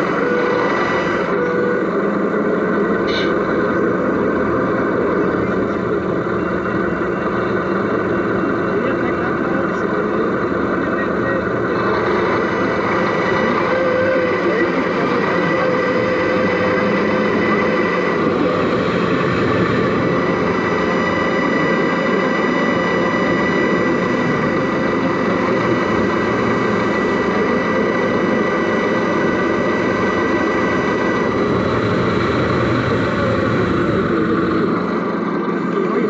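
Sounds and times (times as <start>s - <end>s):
high whine: 0.0s - 36.0s
mechanical drone: 0.0s - 36.0s.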